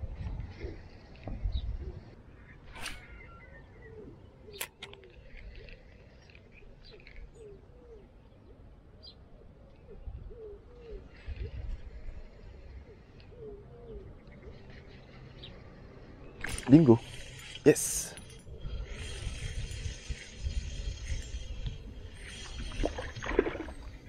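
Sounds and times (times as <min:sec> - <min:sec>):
small birds chirping: 0:00.6 - 0:22.7.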